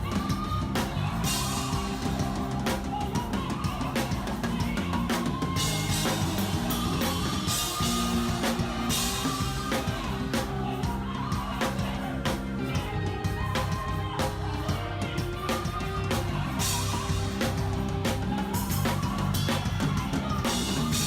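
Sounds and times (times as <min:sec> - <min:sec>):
drum kit playing hard: 0:00.0 - 0:21.0
live band music: 0:00.0 - 0:21.0.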